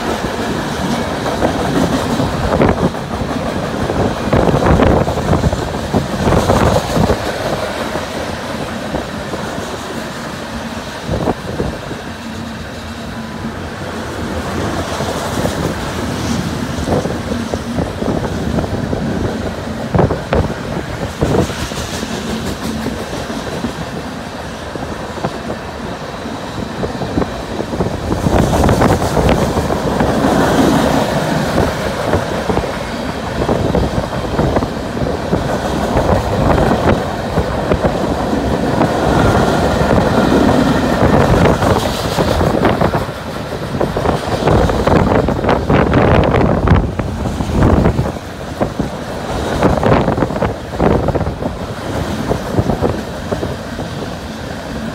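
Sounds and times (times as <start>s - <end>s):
sharp rail clicks: 0.0s - 54.9s
train wheels rumbling on rails: 0.0s - 54.9s.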